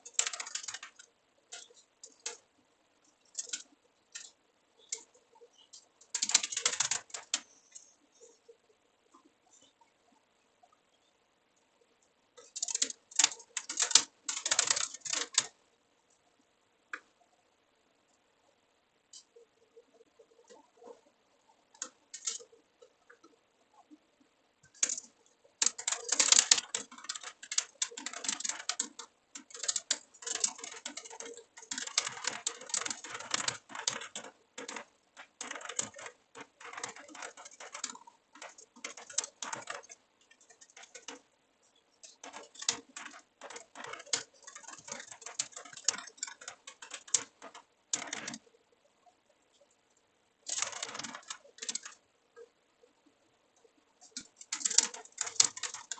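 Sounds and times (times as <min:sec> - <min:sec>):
keyboard typing: 0:00.0 - 0:02.5, 0:03.1 - 0:08.5, 0:12.4 - 0:15.6, 0:19.2 - 0:24.0, 0:24.6 - 0:48.6, 0:50.4 - 0:55.9
faint steady hum: 0:00.0 - 0:55.9.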